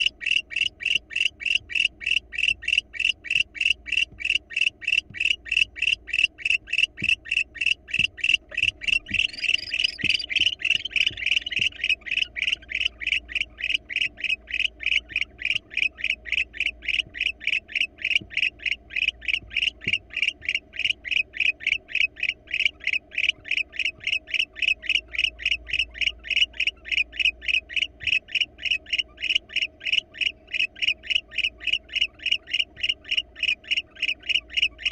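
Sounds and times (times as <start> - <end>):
frog calling: 0.0 - 34.9.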